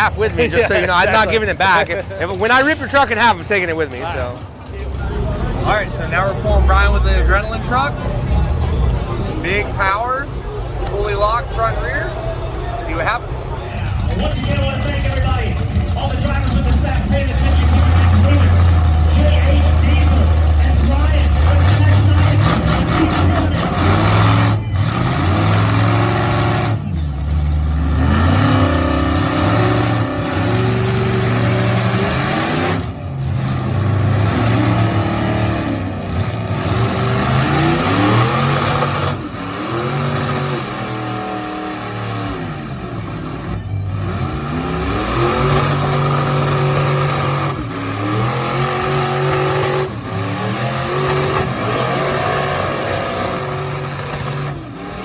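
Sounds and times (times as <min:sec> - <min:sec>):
truck engine revving hard: 0:00.0 - 0:55.0.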